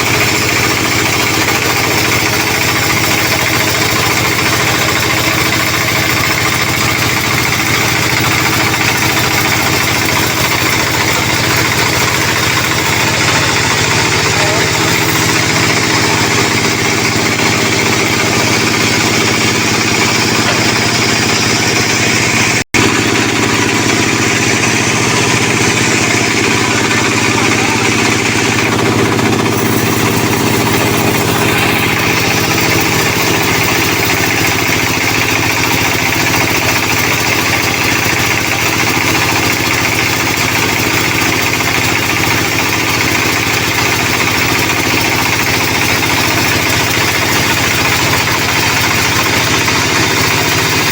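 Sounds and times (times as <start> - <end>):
engine hum: 0.0 - 50.9
sawmill machinery whirring: 0.0 - 50.9.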